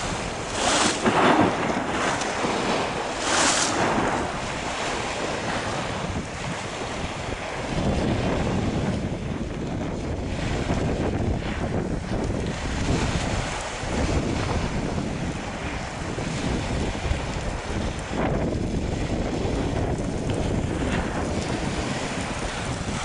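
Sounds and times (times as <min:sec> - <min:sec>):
waves breaking against wall: 0:00.0 - 0:23.0
wind buffeting microphone: 0:00.0 - 0:23.0.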